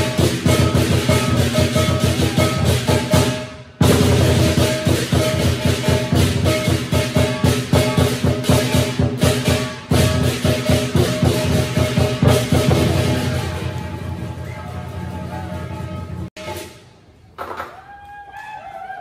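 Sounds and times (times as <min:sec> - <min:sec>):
ringing gong: 0:00.0 - 0:16.3
large drum beating rapidly: 0:00.0 - 0:16.6
cymbals clashing: 0:00.0 - 0:17.1.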